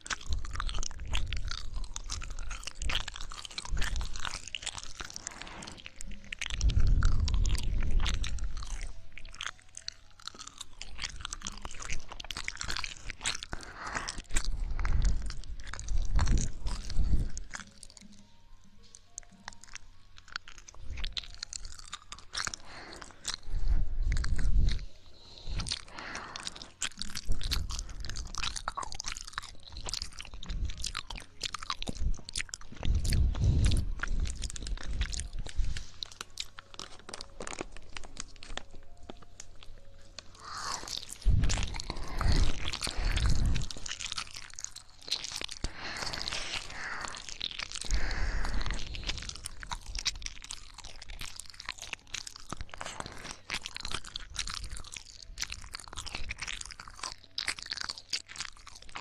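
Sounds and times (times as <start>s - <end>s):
wet mouth clicks and licks: 0.0s - 59.0s.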